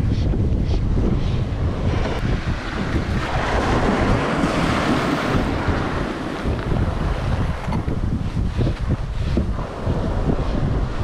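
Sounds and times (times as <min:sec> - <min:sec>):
wind buffeting microphone: 0:00.0 - 0:11.0
small waves washing on sand: 0:00.8 - 0:11.0.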